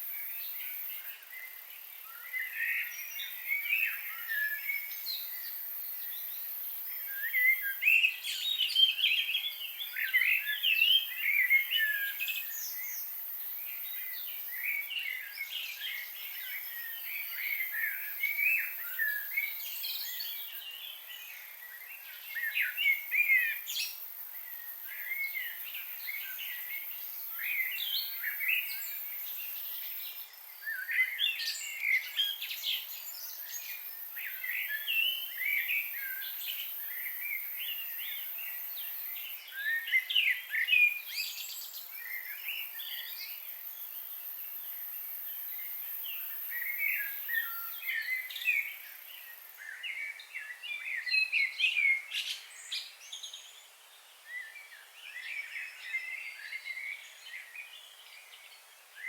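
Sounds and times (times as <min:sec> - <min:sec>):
faint hiss: 0:00.0 - 0:59.0
small birds chirping: 0:00.0 - 0:59.0.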